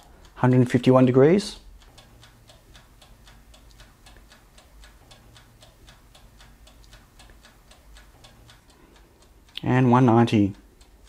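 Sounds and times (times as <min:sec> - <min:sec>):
dial timer ticking: 0:00.0 - 0:11.0.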